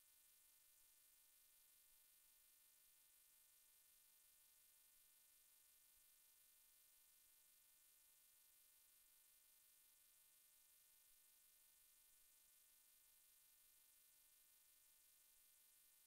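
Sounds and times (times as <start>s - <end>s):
faint electronic hiss and hum: 0.0s - 16.0s.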